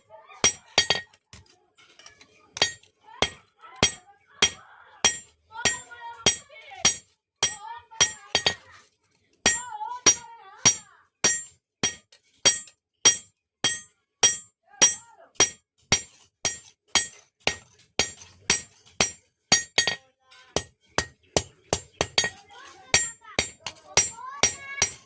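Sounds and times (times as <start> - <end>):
hammer striking metal on anvil: 2.6 - 8.6, 9.5 - 20.0, 20.6 - 25.0.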